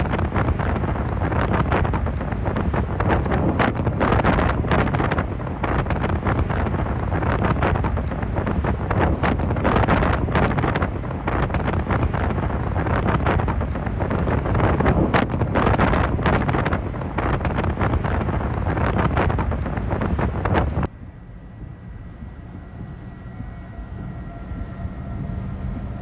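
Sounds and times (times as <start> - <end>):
storm wind buffeting microphone: 0.0 - 26.0.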